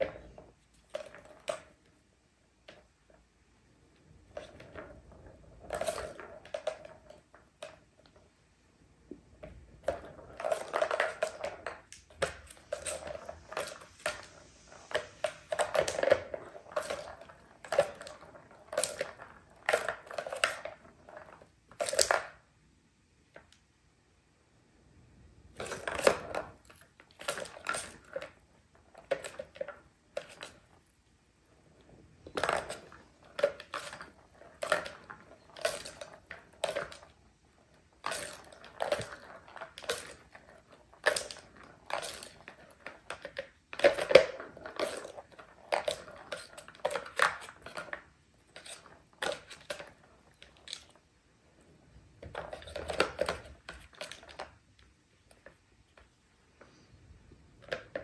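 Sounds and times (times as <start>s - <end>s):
plastic balls rattling in track: 4.0s - 8.4s, 9.3s - 22.5s, 25.4s - 56.7s, 57.5s - 58.0s.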